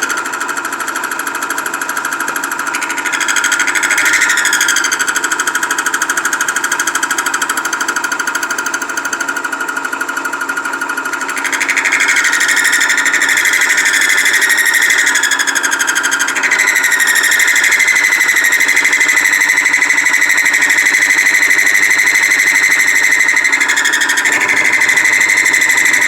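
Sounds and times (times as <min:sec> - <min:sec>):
steel cutter chattering: 0:00.0 - 0:26.0.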